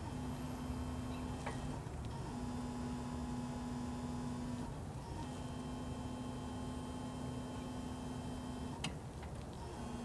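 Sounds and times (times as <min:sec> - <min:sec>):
hydraulic pump motor humming: 0:00.0 - 0:08.9, 0:09.6 - 0:10.0.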